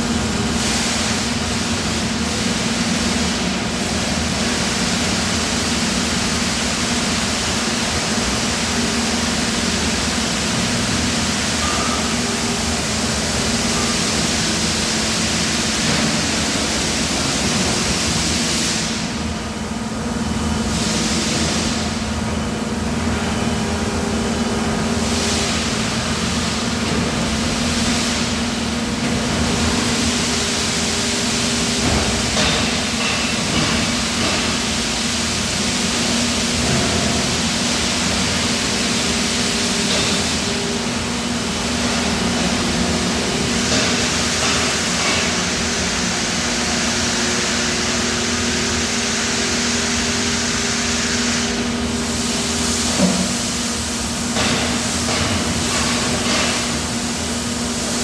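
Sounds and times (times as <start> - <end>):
factory machinery drone: 0.0 - 58.0.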